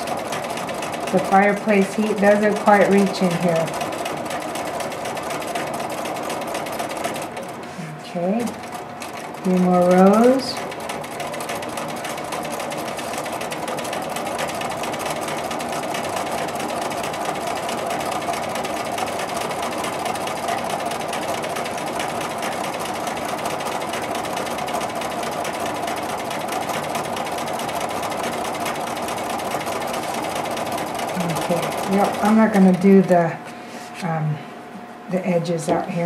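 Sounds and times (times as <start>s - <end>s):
sewing machine running: 0.0s - 33.4s.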